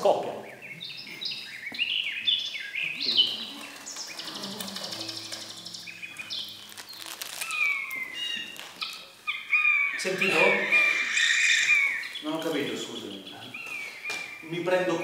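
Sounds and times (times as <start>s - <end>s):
birdsong chirps and trills: 0.0s - 15.0s.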